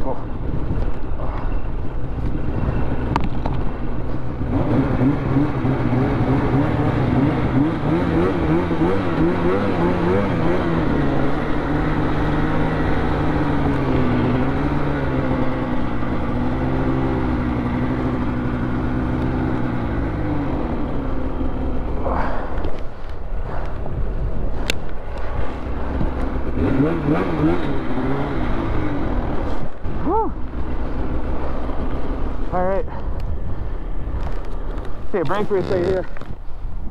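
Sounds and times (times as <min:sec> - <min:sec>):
snowmobile engine running: 0:01.1 - 0:33.2.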